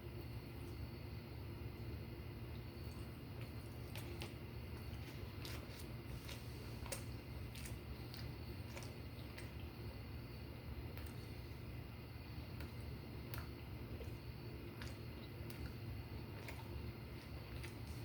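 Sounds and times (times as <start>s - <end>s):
steady low hum: 0.0s - 18.0s
soft squishy chewing: 1.8s - 18.0s.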